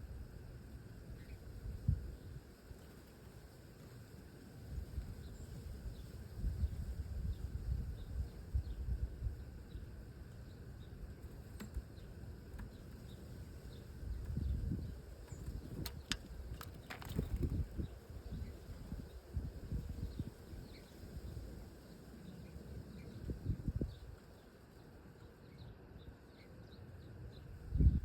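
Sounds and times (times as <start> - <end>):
small birds chirping: 0.6 - 28.0.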